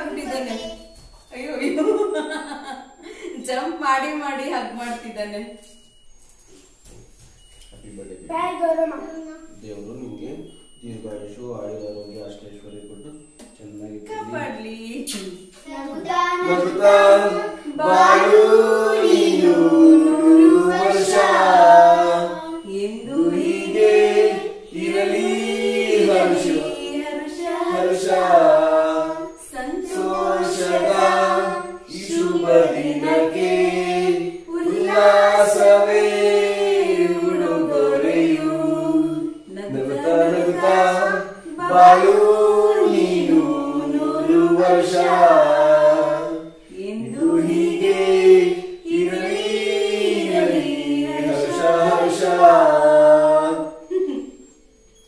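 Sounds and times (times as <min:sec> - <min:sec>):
group singing without instruments: 0:00.0 - 0:03.6, 0:07.8 - 0:55.0.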